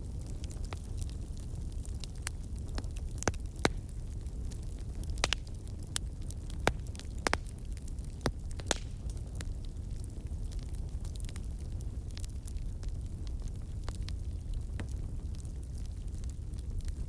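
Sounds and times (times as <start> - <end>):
campfire crackling: 0.0 - 17.0
fire pops and snaps: 0.0 - 17.0.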